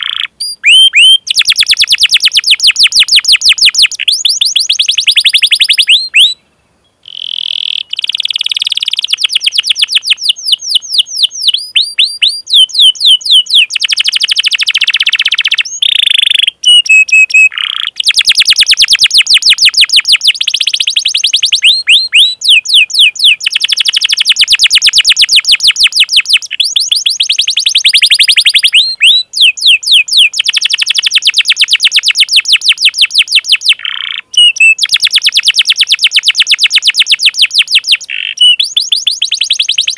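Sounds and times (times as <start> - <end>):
canary chirps: 0.0 - 6.4, 7.0 - 39.9
canary singing trills: 0.0 - 39.9.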